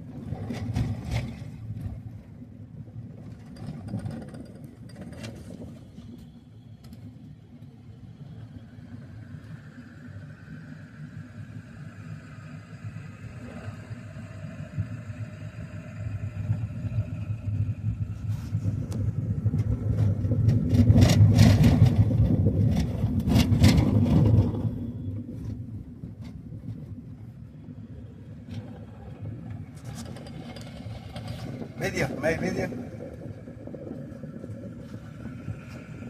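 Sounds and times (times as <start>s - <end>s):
road vehicle rumble: 0.0s - 36.0s.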